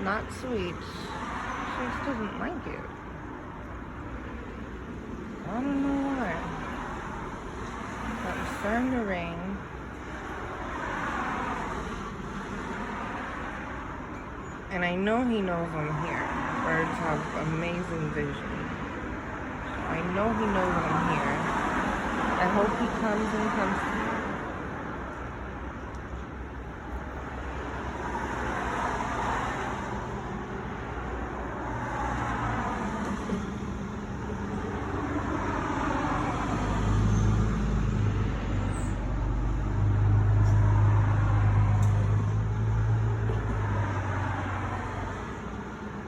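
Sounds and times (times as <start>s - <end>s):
passing vehicles rushing: 0.0s - 46.0s.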